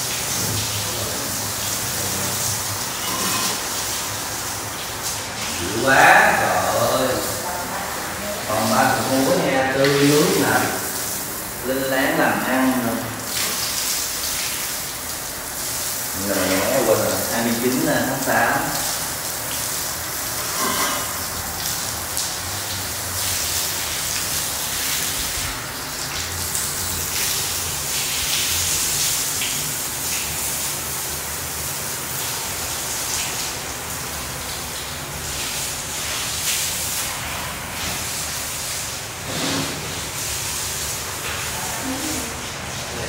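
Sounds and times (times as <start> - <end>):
hose water splashing on tiles: 0.0 - 43.0.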